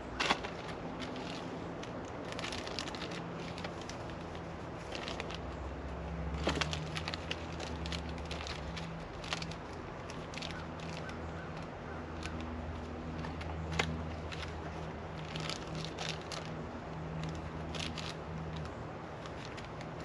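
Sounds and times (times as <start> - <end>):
steady low hum: 0.0 - 20.0
packaging crackling and rustling: 0.2 - 20.0.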